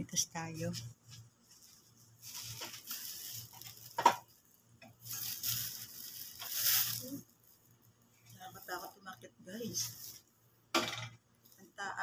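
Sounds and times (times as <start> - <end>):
rustling and shuffling: 0.1 - 10.4.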